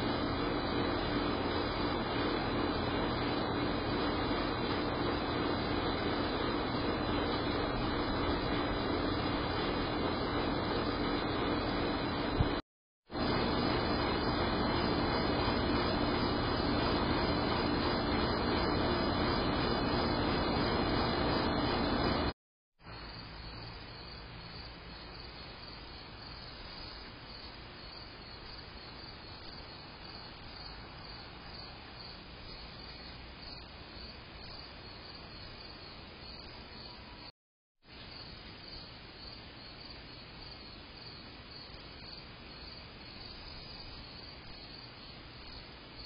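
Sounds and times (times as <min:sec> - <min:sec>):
crickets chirping: 0:00.0 - 0:12.4, 0:13.2 - 0:22.2, 0:22.8 - 0:37.3, 0:37.9 - 0:46.0.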